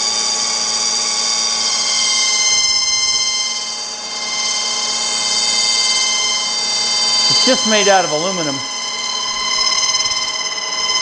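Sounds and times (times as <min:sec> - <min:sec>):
metal disk ringing on a lathe: 0:00.0 - 0:11.0.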